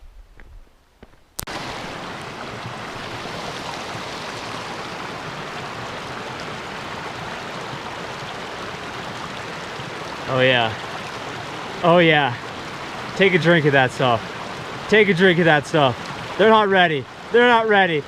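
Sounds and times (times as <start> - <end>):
mountain stream rushing: 1.4 - 18.0.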